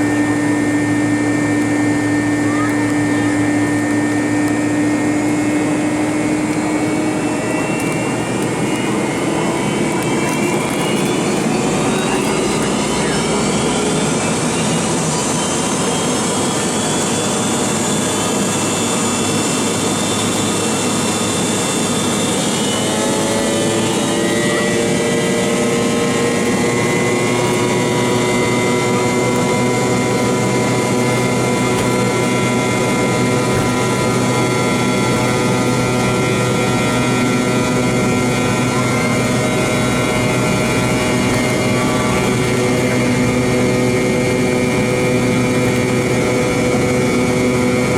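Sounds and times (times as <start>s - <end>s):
jet engines heard inside cabin: 0.0s - 47.9s.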